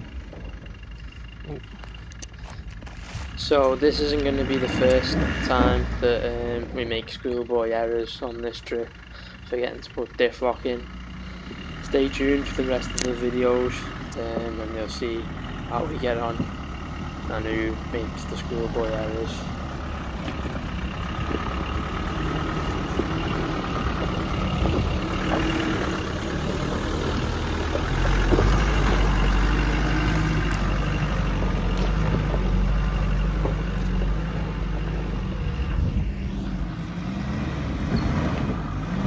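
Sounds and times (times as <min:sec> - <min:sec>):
truck engine at low revs: 0:00.0 - 0:39.0.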